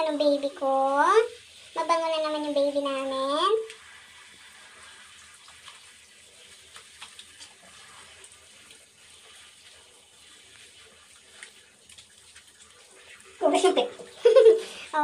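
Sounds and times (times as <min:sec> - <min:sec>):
shower water running: 0:00.0 - 0:15.0
soft ticks and splashes: 0:00.0 - 0:15.0
hands rubbing wet fur: 0:01.6 - 0:15.0.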